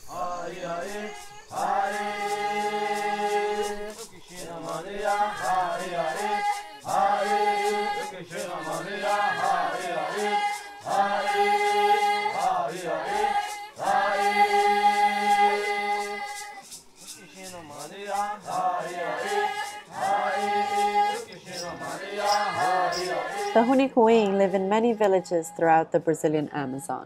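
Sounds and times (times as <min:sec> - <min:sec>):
rattle shaken: 0:00.0 - 0:24.5
group chanting: 0:00.0 - 0:25.3.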